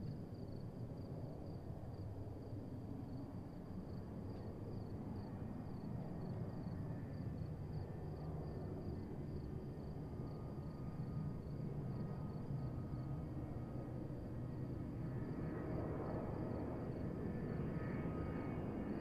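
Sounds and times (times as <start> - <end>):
crickets chirping: 0.1 - 19.0.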